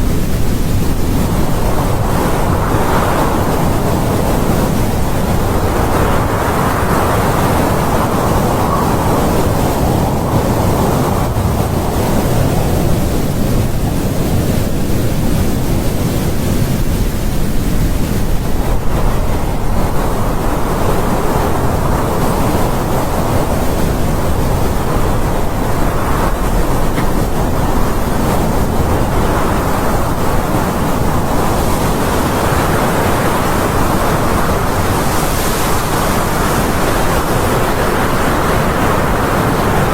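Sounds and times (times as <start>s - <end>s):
wind blowing in gusts: 0.0s - 39.9s.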